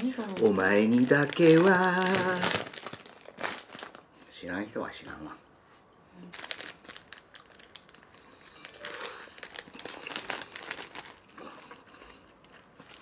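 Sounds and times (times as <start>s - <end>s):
plastic packaging crinkling: 0.0s - 4.3s, 6.2s - 13.0s.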